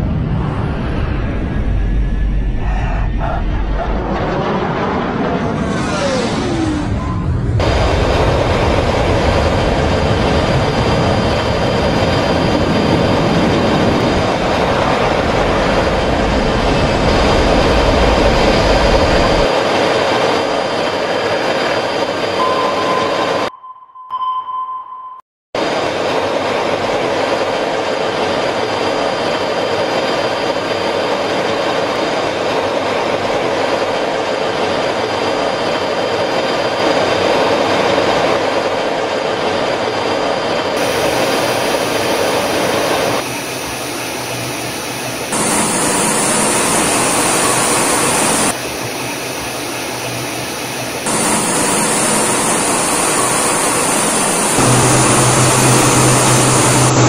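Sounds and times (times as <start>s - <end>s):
jet engine and airflow rushing: 0.0s - 23.5s, 25.6s - 57.0s.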